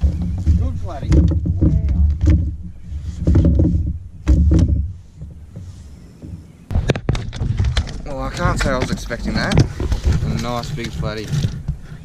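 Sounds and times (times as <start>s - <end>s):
sharp knocks and clicks: 0.0s - 5.6s, 6.2s - 12.0s
rumbling handling noise: 0.0s - 12.0s.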